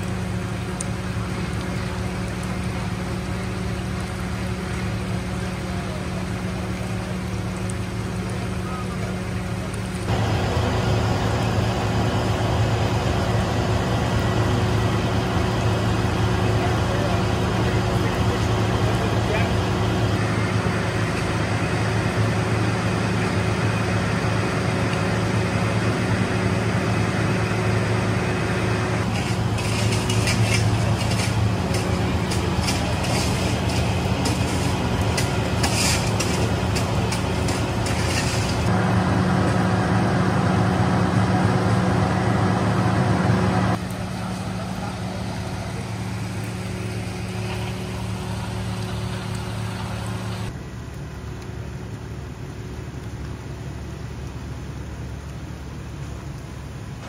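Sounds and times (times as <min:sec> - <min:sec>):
engine idling hum: 0:00.0 - 0:57.0.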